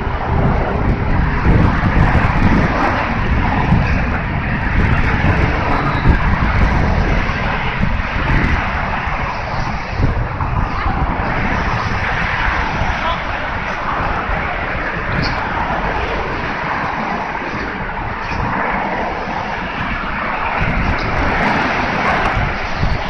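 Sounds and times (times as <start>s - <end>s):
road traffic drone: 0.0s - 23.0s
wind rumbling on microphone: 0.0s - 23.0s.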